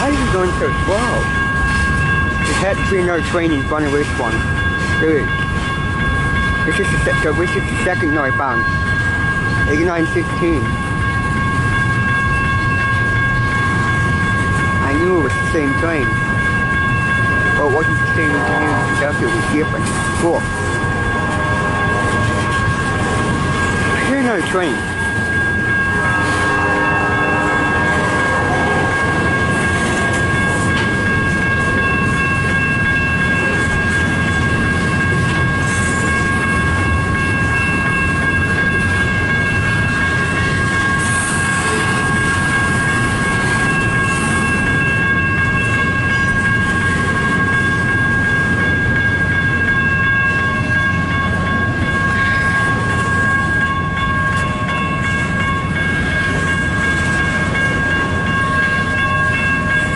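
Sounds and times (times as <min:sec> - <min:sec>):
constant high whine: 0:00.0 - 0:59.9
freight train rumble and rattle: 0:00.0 - 0:59.9.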